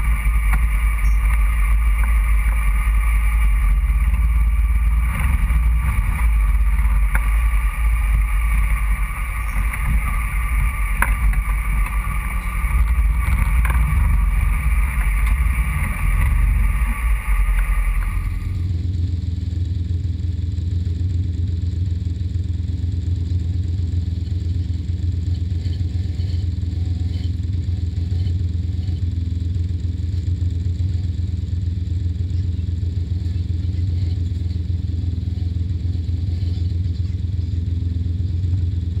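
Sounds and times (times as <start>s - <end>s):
off-road vehicle engine: 0.0s - 39.0s.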